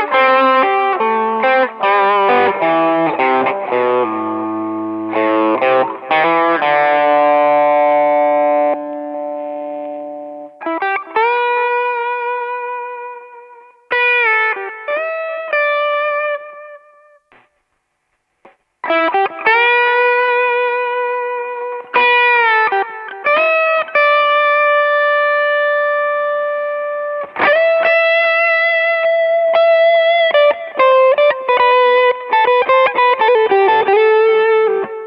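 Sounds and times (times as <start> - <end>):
electric guitar notes and chords: 0.0 - 17.6, 18.5 - 35.0.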